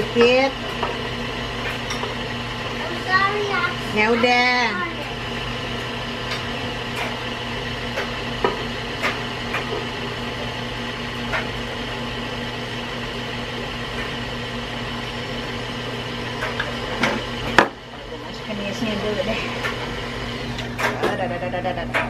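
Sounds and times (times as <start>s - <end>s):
electric mixer humming: 0.0s - 22.0s.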